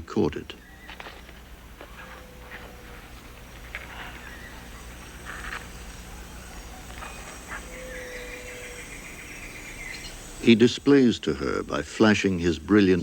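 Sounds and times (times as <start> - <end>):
low steady hum: 0.0 - 13.0
buzzy insect trill: 0.6 - 13.0.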